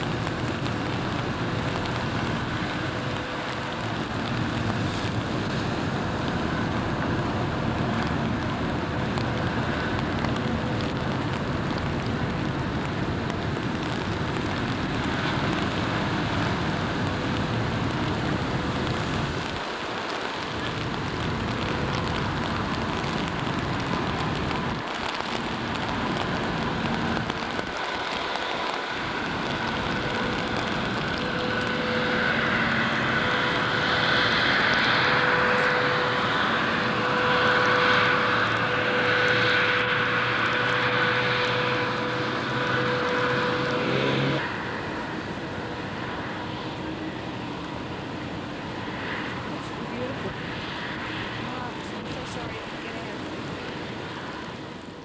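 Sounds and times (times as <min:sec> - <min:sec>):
ferry engines humming: 0:00.0 - 0:55.0
high engine whine: 0:00.0 - 0:55.0.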